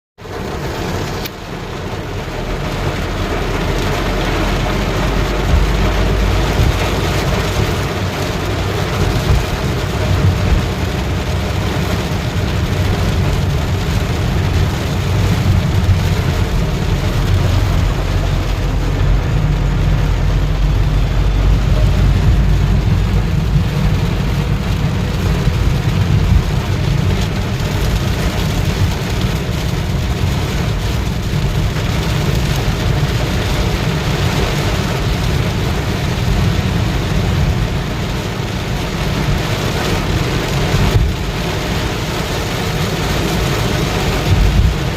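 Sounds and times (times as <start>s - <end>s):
heavy rain: 0.2s - 44.9s
deep constant rumble: 0.3s - 44.9s.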